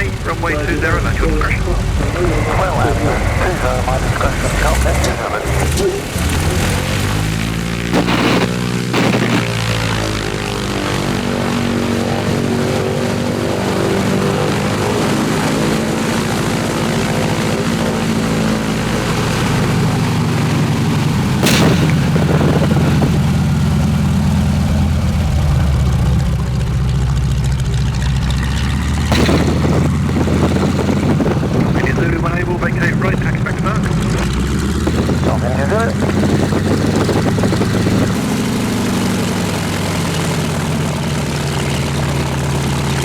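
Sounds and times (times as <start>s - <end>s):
radial aircraft engine running: 0.0s - 43.0s.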